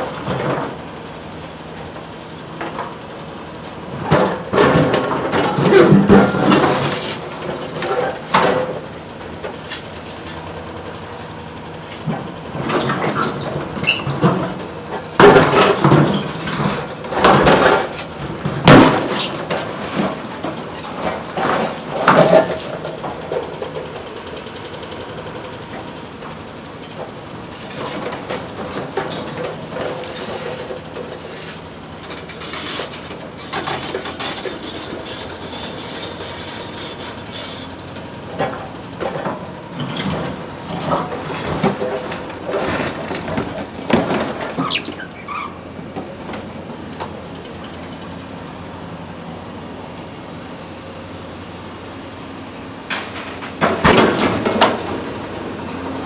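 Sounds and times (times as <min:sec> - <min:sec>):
excavator machine noise: 0:00.0 - 0:56.0.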